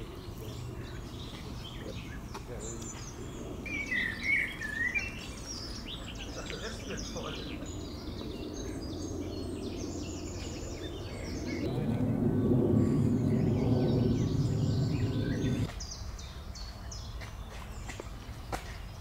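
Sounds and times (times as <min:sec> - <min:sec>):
outdoor background murmur: 0:00.0 - 0:19.0
small birds chirping: 0:00.0 - 0:19.0.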